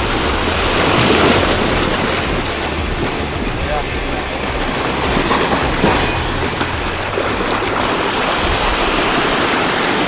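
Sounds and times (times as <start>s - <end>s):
sea waves rushing over rocks: 0.0s - 10.0s.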